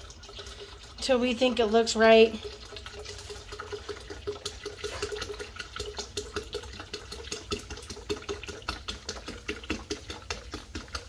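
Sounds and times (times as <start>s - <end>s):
carbonation fizzing and popping: 0.0s - 11.0s.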